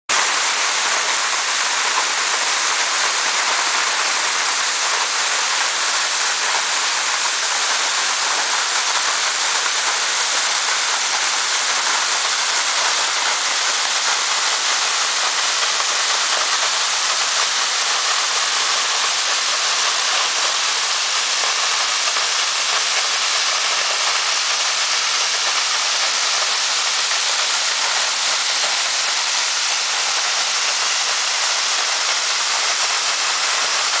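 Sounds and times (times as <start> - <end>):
waterfall rushing: 0.1 - 34.0.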